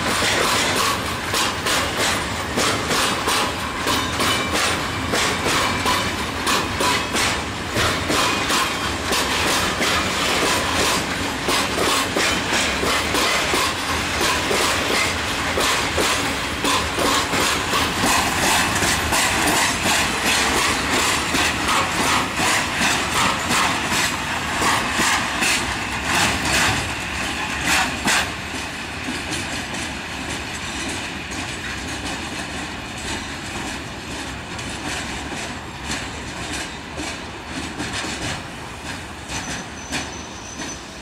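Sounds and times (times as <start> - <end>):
train wheels clattering: 0.0 - 41.0.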